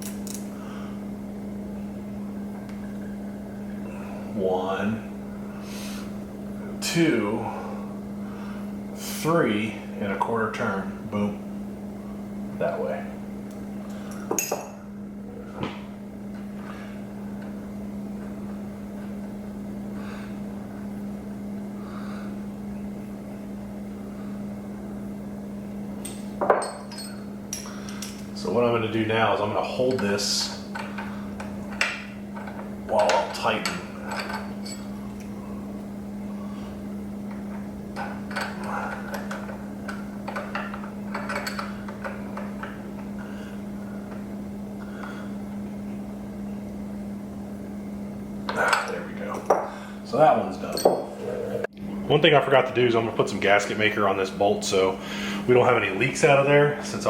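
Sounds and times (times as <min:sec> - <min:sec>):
mechanical hum: 0:00.0 - 0:57.0.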